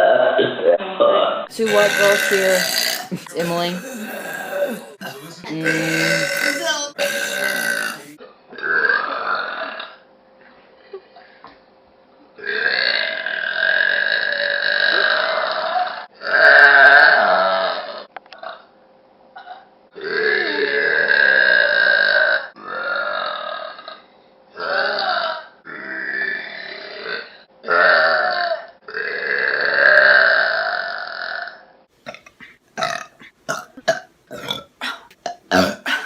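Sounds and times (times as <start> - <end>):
woman burping loudly: 1.5 - 10.0, 12.4 - 18.6, 19.4 - 23.9, 24.6 - 36.0.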